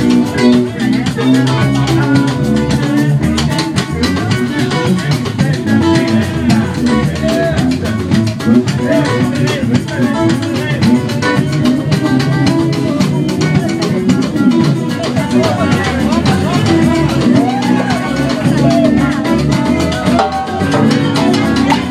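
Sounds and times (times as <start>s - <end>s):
congas: 0.0s - 21.9s
drum kit: 0.0s - 21.9s
electric guitar: 0.0s - 21.9s
live band playing: 0.0s - 21.9s.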